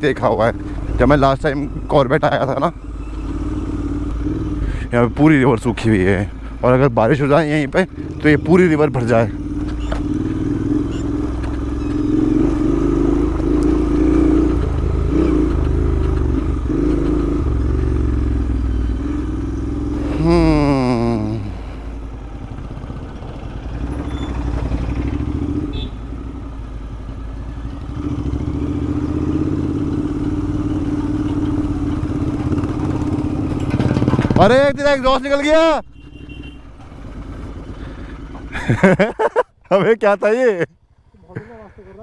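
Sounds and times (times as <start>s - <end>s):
motorcycle engine revving: 0.0s - 35.0s, 35.9s - 38.8s.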